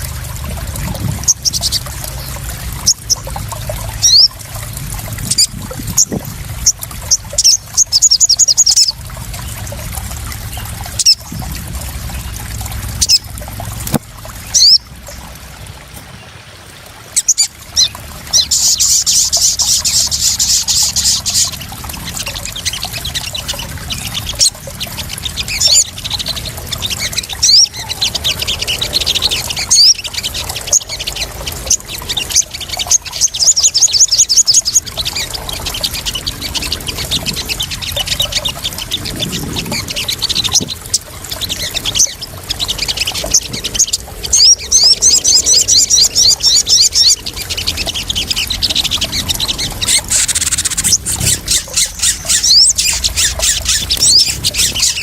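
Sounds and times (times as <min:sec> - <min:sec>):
birds chittering trills: 0:00.0 - 0:55.0
water splashing and trickling: 0:00.0 - 0:55.0.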